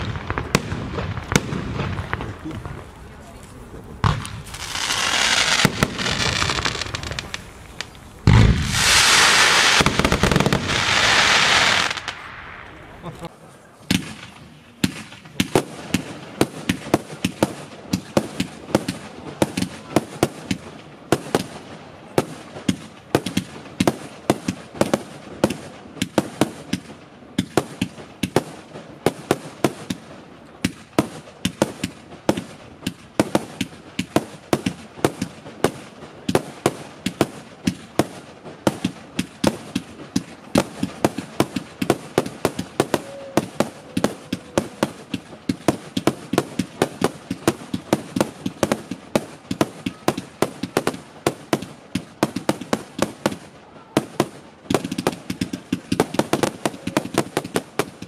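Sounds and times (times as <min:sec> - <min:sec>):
fireworks firing rapid bangs: 0:00.0 - 0:03.2, 0:04.0 - 0:13.3, 0:13.9 - 0:30.0, 0:30.6 - 0:58.0.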